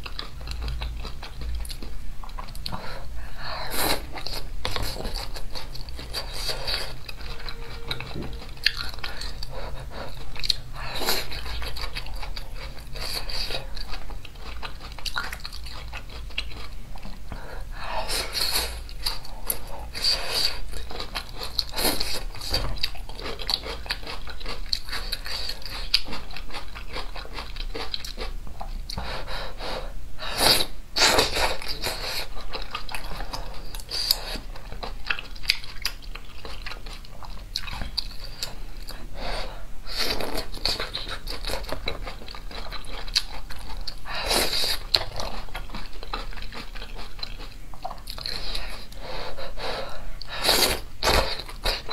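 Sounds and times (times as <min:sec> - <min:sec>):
chewing and biting food: 0:00.0 - 0:02.9, 0:03.9 - 0:29.2, 0:30.5 - 0:39.1, 0:39.9 - 0:49.1.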